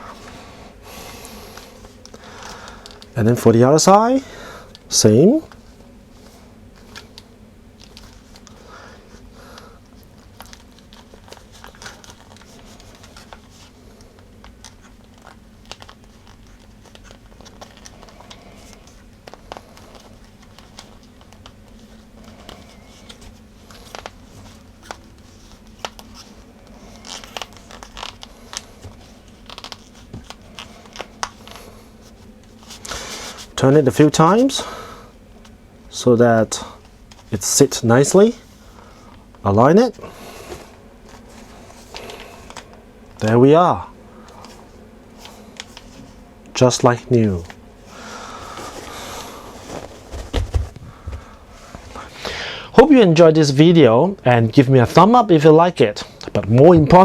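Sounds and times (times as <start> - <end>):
ear pad rustling and scratching: 0.0 - 53.0.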